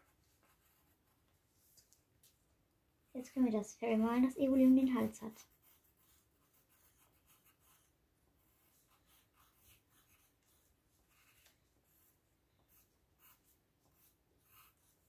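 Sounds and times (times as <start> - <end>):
pencil scratching on paper: 0.0 - 1.3, 3.1 - 15.0.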